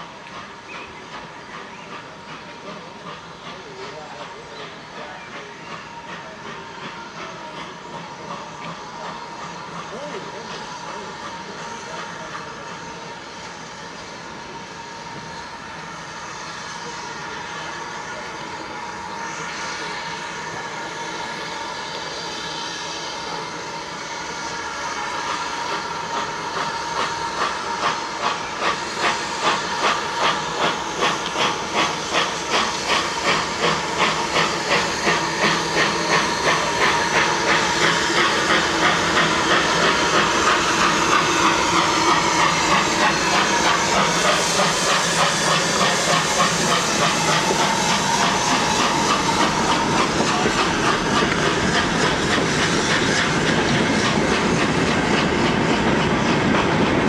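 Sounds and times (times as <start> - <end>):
steam locomotive chuffing: 0.0 - 57.0.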